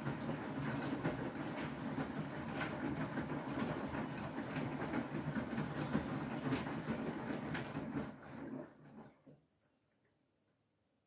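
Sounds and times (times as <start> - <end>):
washing machine drum churning: 0.0 - 9.4.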